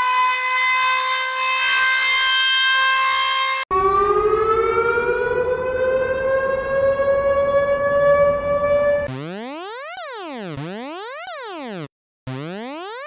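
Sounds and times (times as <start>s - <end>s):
civil defense siren winding up: 0.0s - 13.0s
steady siren tone: 0.0s - 13.0s.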